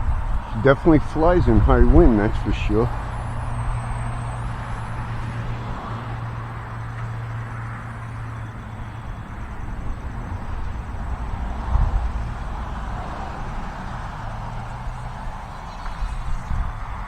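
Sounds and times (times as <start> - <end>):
wind buffeting microphone: 0.0 - 17.0
model plane motor whine: 1.4 - 17.0.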